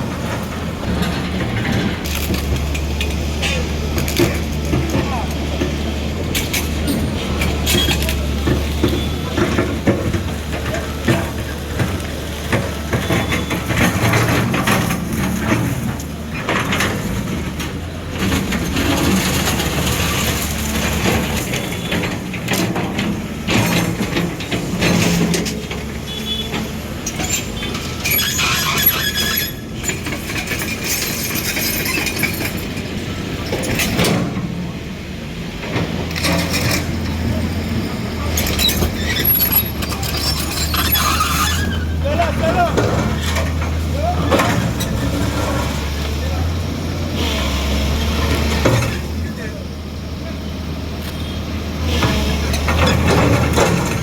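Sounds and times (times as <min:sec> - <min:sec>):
heavy machine engine droning: 0:00.0 - 0:54.0.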